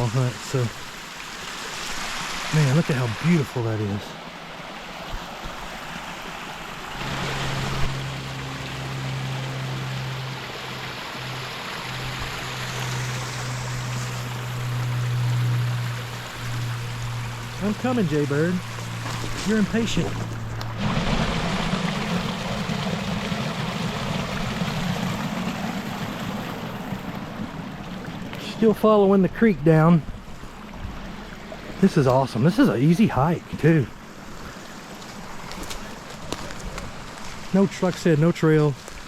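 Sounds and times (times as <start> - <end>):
creek water rushing: 0.0 - 39.0
low steady hum: 6.9 - 39.0.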